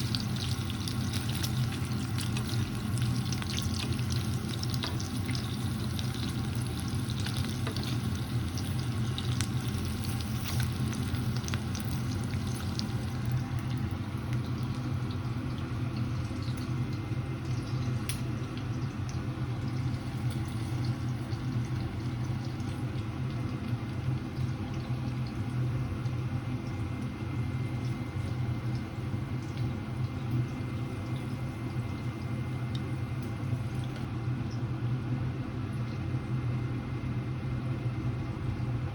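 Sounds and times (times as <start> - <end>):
food sizzling in a frying pan: 0.0 - 34.1.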